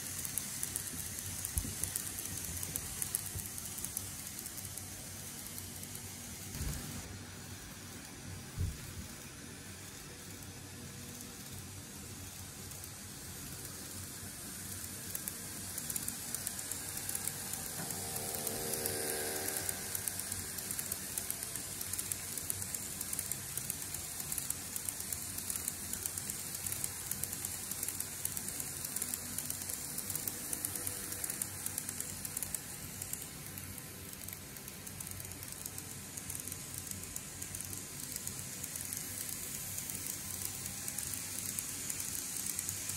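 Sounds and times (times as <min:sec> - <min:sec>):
model train hiss: 0:00.0 - 0:42.9
model train motor whine: 0:00.0 - 0:42.9.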